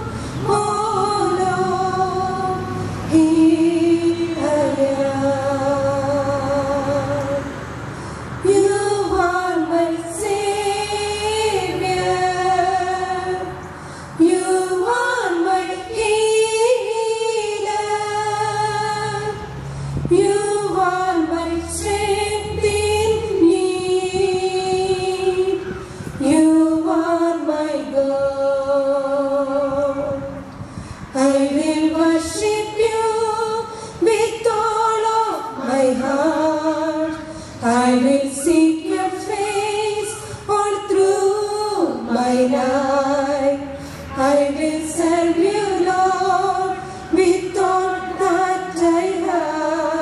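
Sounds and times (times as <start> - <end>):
woman singing a hymn: 0.0 - 7.6, 8.4 - 30.4, 31.1 - 50.0.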